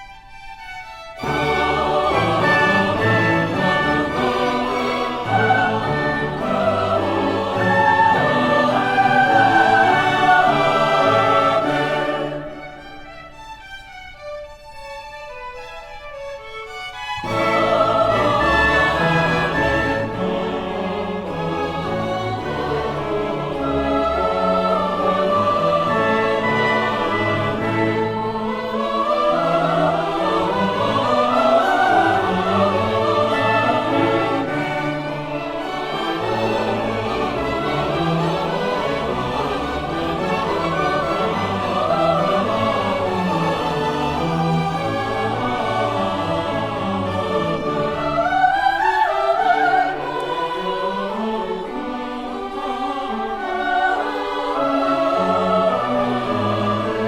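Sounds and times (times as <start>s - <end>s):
symphony orchestra playing: 0.0s - 57.0s
operatic singing with vibrato: 1.2s - 12.9s, 17.0s - 57.0s.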